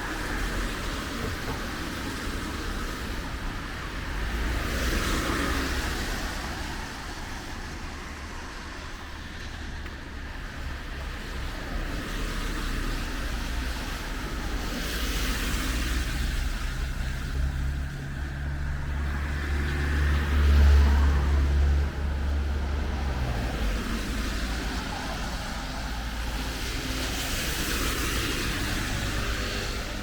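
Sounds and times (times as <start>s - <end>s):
car tyres hissing on wet road: 0.0s - 30.0s.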